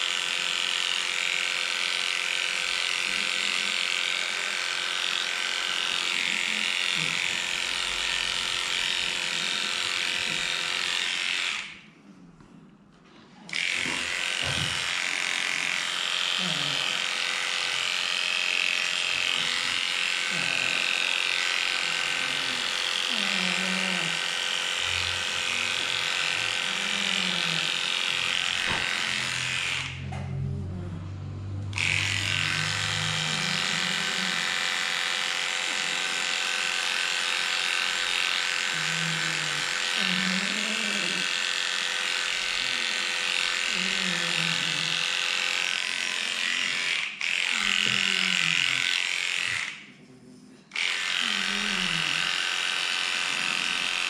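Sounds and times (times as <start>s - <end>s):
electric clippers buzzing: 0.0s - 11.9s, 13.4s - 50.0s, 50.7s - 54.0s.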